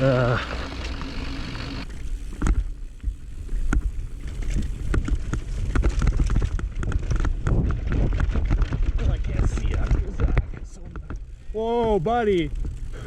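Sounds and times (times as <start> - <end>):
bike rattling over rough terrain: 0.0 - 13.0
wind rumbling on microphone: 2.4 - 13.0.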